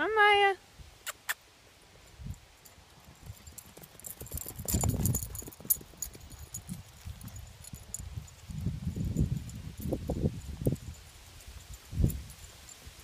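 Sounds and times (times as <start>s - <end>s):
dog paws galloping on grass: 1.8s - 13.0s.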